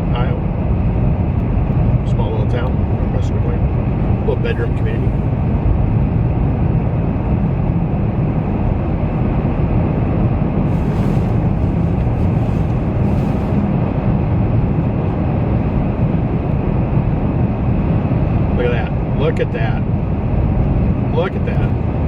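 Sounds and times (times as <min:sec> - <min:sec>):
car road noise rumble: 0:00.0 - 0:22.0.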